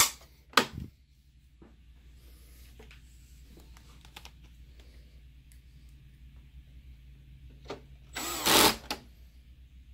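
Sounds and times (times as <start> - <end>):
low steady hum: 0.0 - 9.9.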